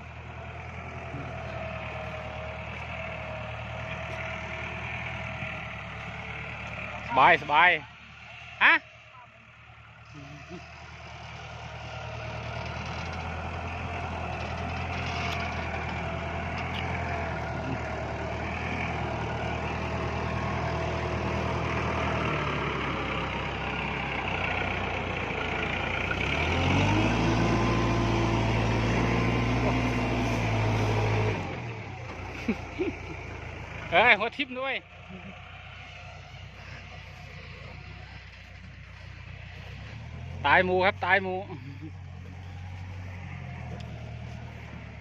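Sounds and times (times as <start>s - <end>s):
tractor diesel engine revving: 0.0s - 45.0s.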